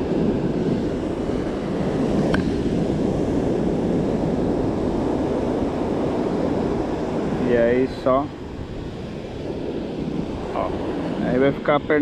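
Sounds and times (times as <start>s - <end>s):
surf breaking on shore: 0.0s - 12.0s
wind rushing over microphone: 0.0s - 12.0s.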